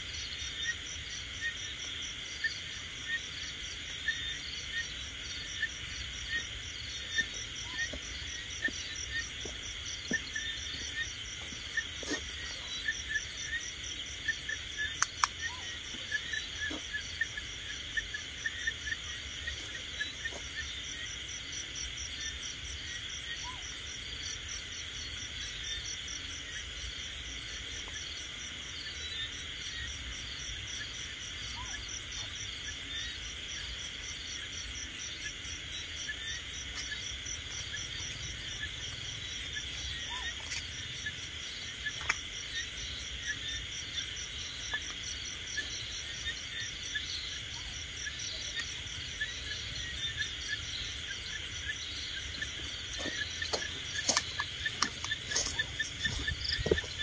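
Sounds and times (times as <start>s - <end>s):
crickets and insects trilling: 0.0s - 57.0s.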